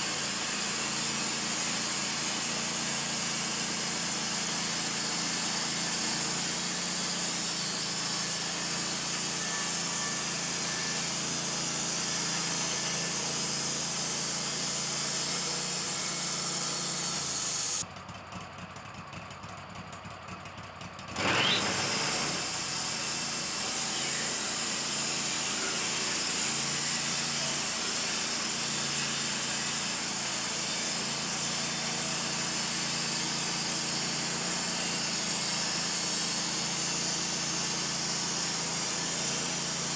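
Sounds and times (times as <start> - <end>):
band sawmill sawing log: 0.0 - 17.8, 21.2 - 39.9.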